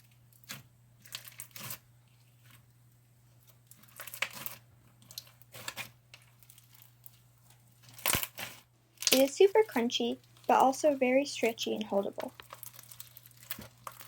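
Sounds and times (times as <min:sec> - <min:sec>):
slime crunchy crackling: 0:00.0 - 0:02.6, 0:03.4 - 0:07.2, 0:07.8 - 0:14.0.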